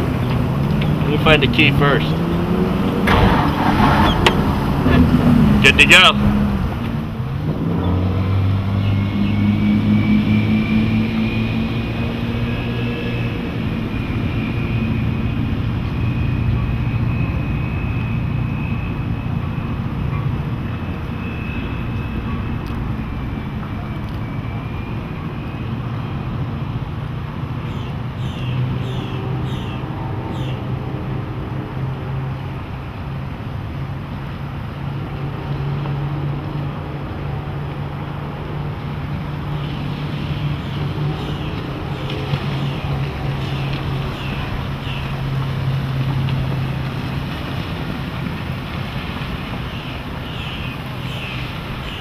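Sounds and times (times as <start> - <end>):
boat engine droning: 0.0 - 52.0
wind and water hiss: 0.0 - 52.0.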